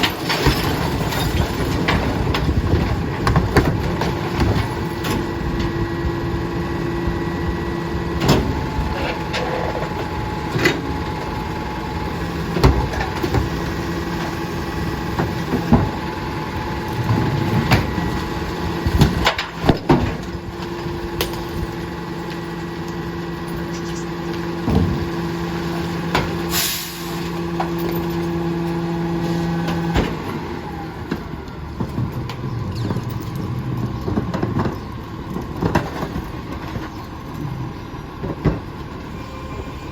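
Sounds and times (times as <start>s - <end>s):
garbage truck mechanical drone: 0.0s - 39.9s.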